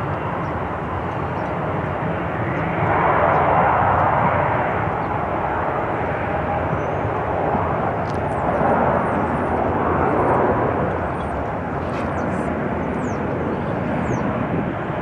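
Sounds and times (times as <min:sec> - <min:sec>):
jet engine rush: 0:00.0 - 0:15.0.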